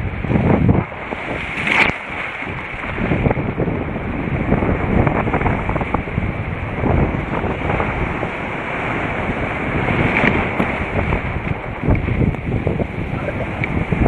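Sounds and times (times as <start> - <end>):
surf breaking and washing: 0.0 - 14.0
wind buffeting microphone: 0.0 - 14.0.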